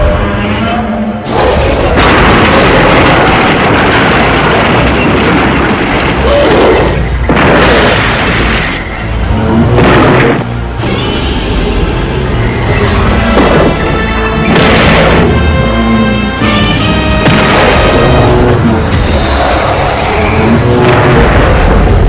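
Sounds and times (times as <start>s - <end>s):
film music: 0.0s - 22.0s
heavy booms and crashing impacts: 1.3s - 10.8s, 12.5s - 22.0s.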